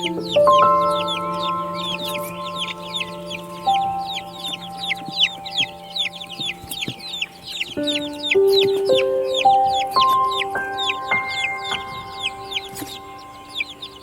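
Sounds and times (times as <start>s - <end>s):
calm music of held notes: 0.0s - 14.0s
chicks peeping: 0.0s - 14.0s.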